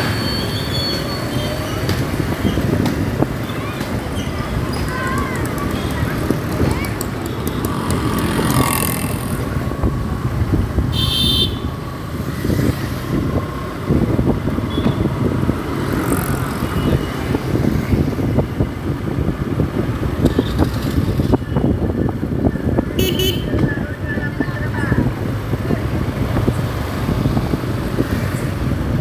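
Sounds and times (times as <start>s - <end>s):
motorcycle engine and road rumble: 0.0s - 29.0s
wind buffeting microphone: 1.5s - 11.0s, 11.6s - 29.0s.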